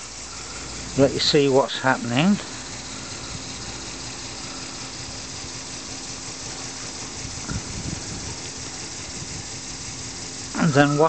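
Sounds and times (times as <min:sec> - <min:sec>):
engine bump: 0:00.0 - 0:11.0
small model engine running: 0:00.0 - 0:11.0
steady hiss: 0:00.0 - 0:11.0.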